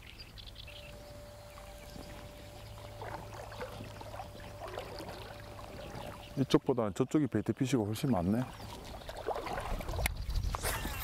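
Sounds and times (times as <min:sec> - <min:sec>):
river water trickling: 0:00.0 - 0:10.6
thin steady hum: 0:00.0 - 0:11.0.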